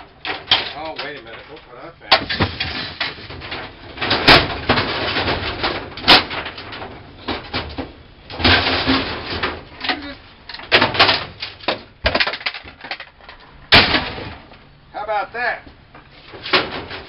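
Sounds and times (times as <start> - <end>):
metal parts clattering and scraping: 0.0 - 14.7, 16.2 - 17.0.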